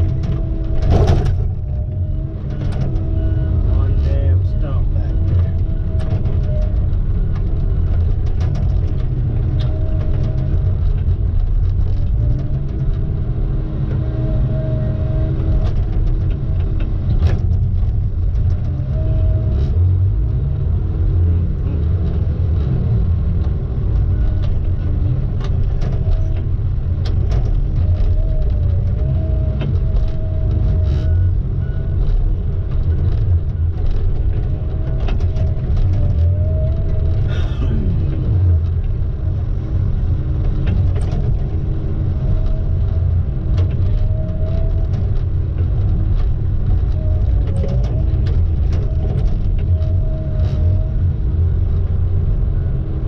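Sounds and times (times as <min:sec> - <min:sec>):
truck engine and road rumble: 0:00.0 - 0:53.0.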